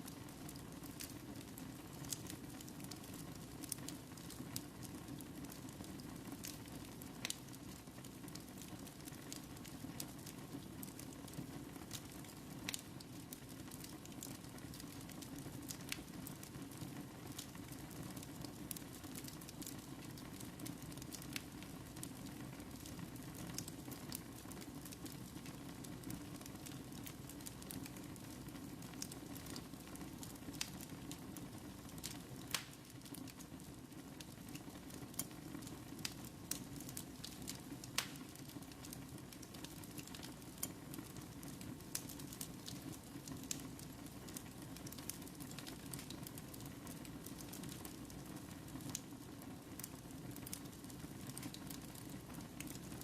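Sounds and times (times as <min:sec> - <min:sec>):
fire crackles and pops: 0:00.0 - 0:53.0.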